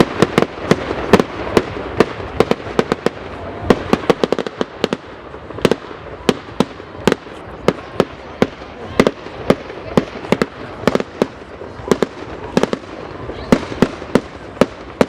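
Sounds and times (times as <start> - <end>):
rumbling crackle of fireworks: 0.0 - 15.0.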